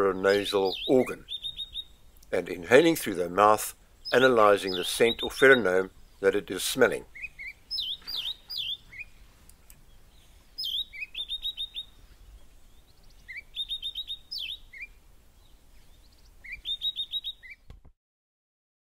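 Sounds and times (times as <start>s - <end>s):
songbirds singing: 0.0s - 17.8s
bird chirps: 0.2s - 17.7s.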